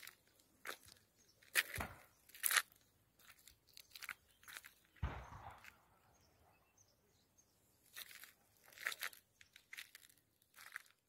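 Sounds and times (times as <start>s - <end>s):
footsteps crunching over rubble: 0.0s - 5.8s, 7.8s - 11.0s.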